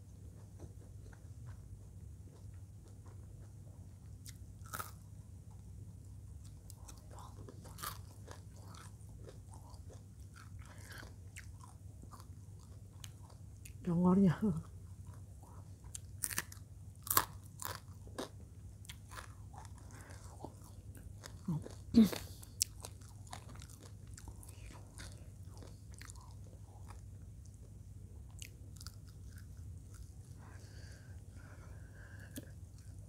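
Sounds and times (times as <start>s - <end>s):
crunching and chewing fried food: 0.0s - 33.0s.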